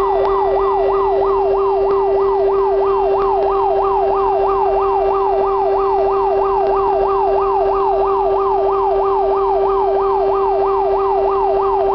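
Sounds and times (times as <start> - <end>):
fire engine siren yelping: 0.0 - 11.9
steady lower tone: 0.0 - 11.9.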